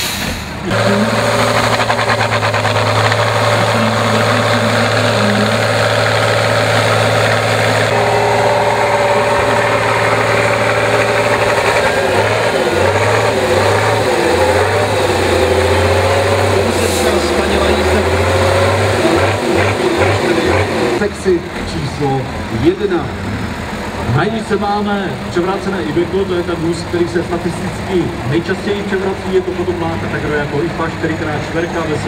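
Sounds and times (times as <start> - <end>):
truck engine straining under load: 0.0 - 32.0.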